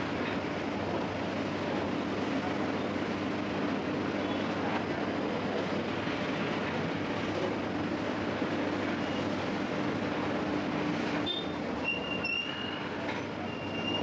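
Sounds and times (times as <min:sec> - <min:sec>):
machinery running with low hum: 0:00.0 - 0:12.1.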